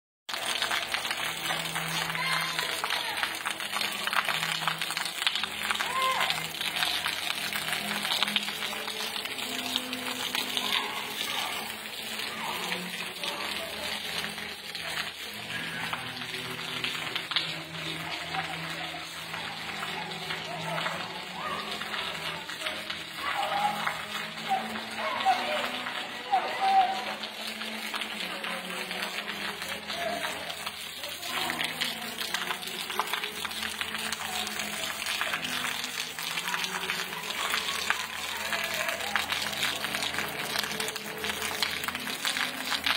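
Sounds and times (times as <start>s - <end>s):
rain falling: 0.3s - 42.9s
splashing running water: 0.3s - 42.9s.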